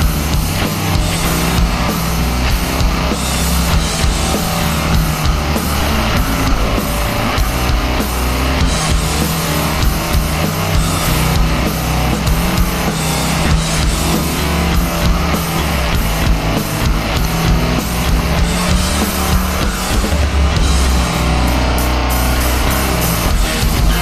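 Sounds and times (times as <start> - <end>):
heavy rock music: 0.0 - 24.0.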